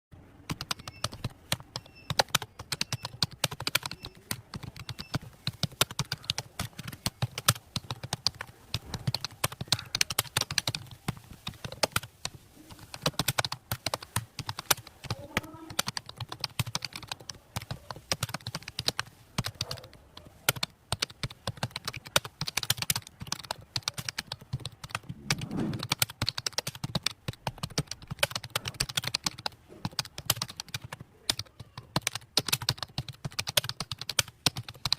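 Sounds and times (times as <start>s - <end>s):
fast keyboard typing: 0.4s - 34.9s.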